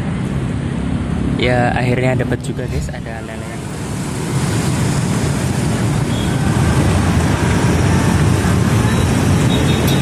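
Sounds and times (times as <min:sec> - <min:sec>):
heavy road traffic rumble: 0:00.0 - 0:10.0.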